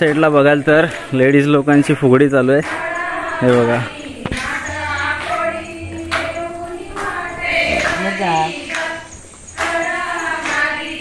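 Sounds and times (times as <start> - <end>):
women singing folk song: 0.0 - 11.0.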